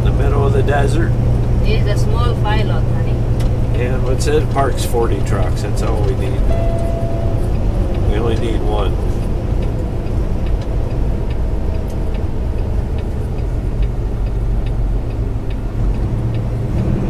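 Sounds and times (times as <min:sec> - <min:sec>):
diesel truck engine drone: 0:00.0 - 0:17.0
road noise: 0:00.0 - 0:17.0.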